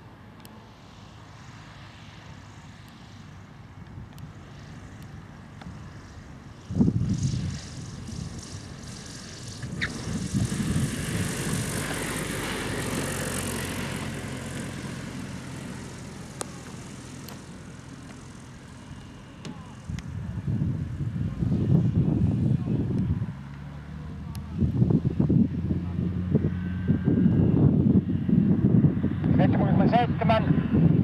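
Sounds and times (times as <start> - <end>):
glider engine and propeller: 0.0 - 31.0.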